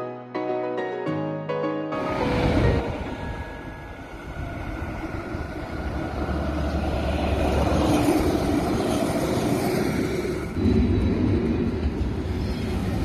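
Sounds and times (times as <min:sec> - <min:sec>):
tram rumbling on track: 0:02.0 - 0:13.0.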